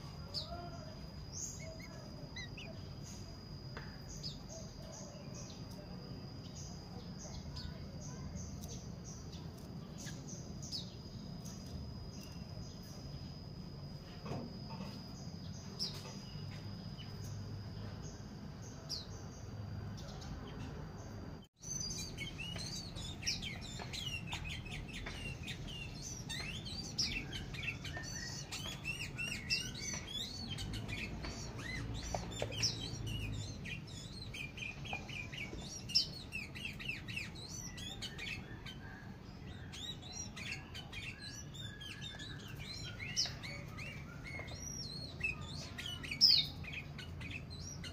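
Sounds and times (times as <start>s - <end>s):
birds chirping and chattering: 0.0s - 47.9s
steady high whine: 0.0s - 47.9s.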